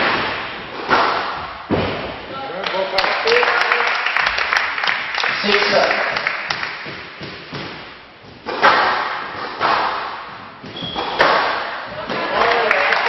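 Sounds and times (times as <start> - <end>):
hard thuds echoing in a hall: 0.0 - 13.0.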